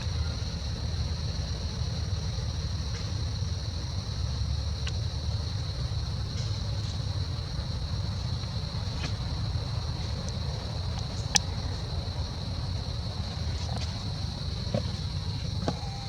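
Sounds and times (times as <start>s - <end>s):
constant high-pitched drone: 0.0s - 16.0s.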